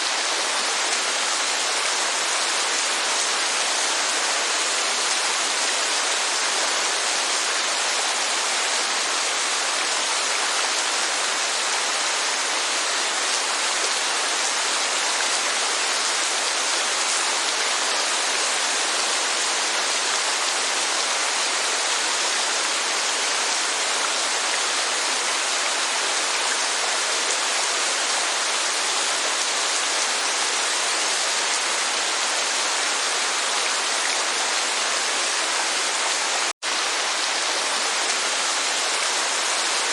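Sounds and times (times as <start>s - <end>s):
heavy rain rushing: 0.0s - 39.9s.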